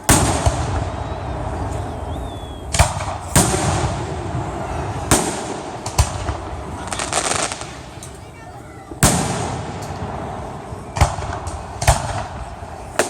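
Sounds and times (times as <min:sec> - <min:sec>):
echoing rumble: 0:00.0 - 0:13.0
fireworks bangs: 0:00.0 - 0:13.0.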